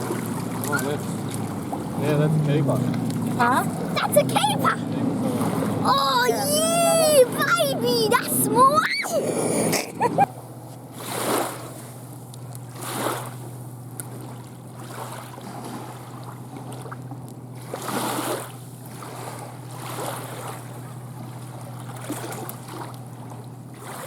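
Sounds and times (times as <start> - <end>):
distant motorboat engine droning: 0.0 - 24.0.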